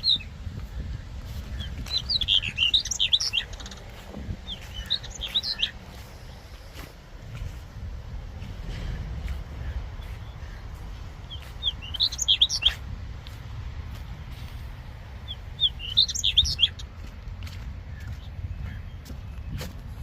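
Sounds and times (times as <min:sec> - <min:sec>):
songbird chirping: 0:00.0 - 0:20.0
steady low rumble: 0:00.0 - 0:20.0.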